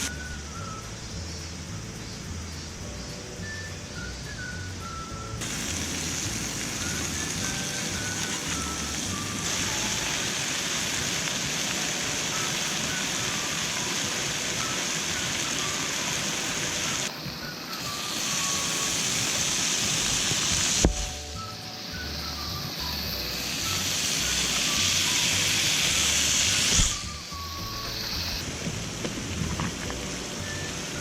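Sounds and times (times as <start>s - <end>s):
mountain stream rushing: 5.4s - 31.0s.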